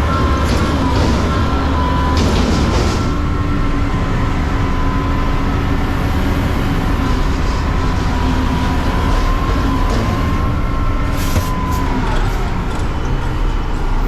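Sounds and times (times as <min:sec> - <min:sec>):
garbage truck engine rumble: 0:00.0 - 0:14.0
steady whine: 0:00.0 - 0:14.0.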